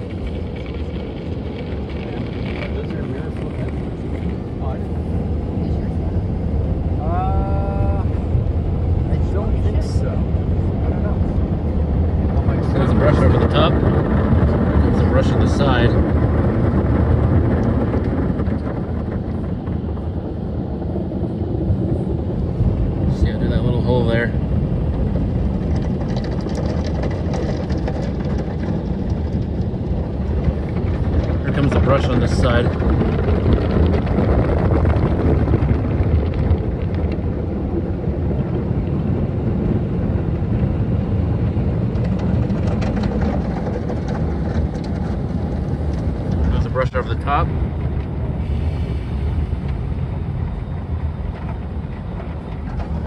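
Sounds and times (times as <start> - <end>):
car wash rumble: 0.0 - 53.0.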